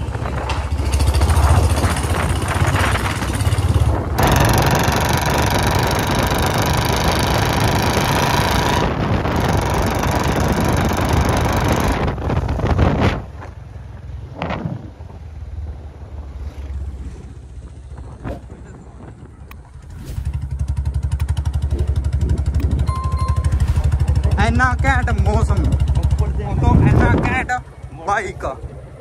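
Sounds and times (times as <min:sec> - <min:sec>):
wind rush: 0:00.0 - 0:04.6, 0:07.7 - 0:24.9, 0:25.8 - 0:27.6
motorcycle engine running: 0:00.0 - 0:28.0.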